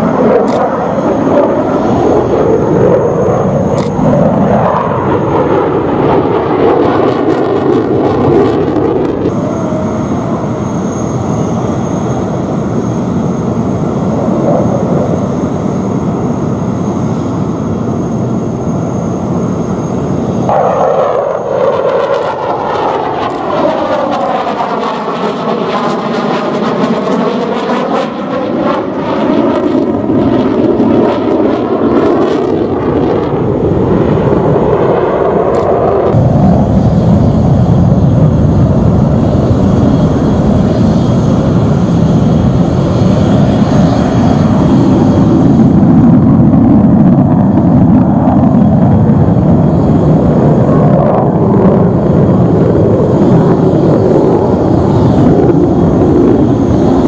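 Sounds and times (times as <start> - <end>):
jet engine in flight: 0.0 - 57.0.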